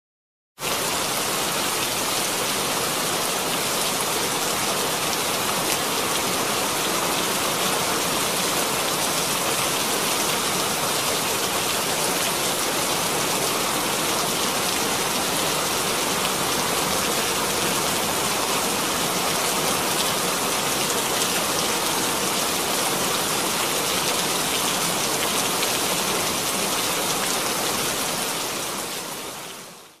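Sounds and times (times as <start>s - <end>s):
steady rain falling: 0.6s - 30.0s.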